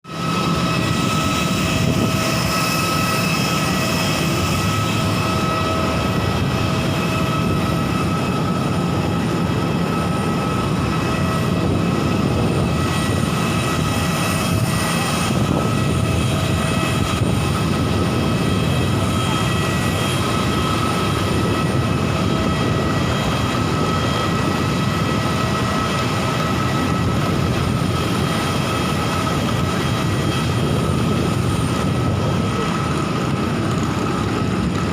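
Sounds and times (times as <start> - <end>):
airliner engines running: 0.0 - 34.9.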